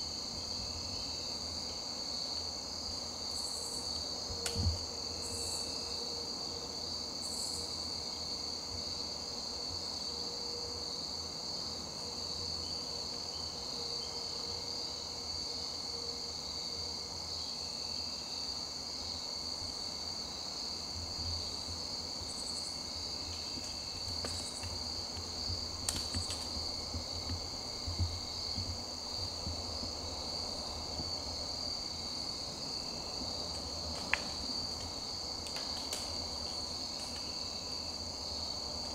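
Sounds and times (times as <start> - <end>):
insect chorus trilling: 0.0 - 38.9.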